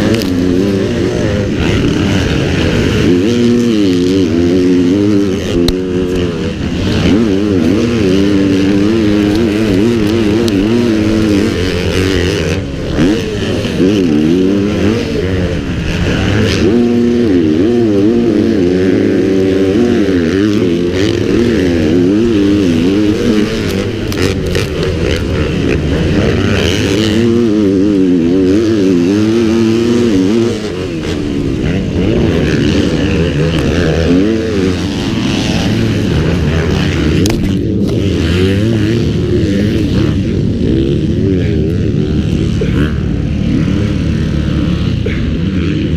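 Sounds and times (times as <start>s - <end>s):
pit bike engine running hard: 0.0s - 45.9s.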